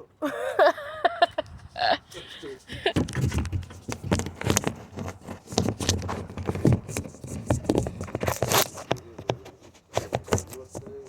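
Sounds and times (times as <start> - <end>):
close knocks clicks and scraping: 1.7 - 11.0.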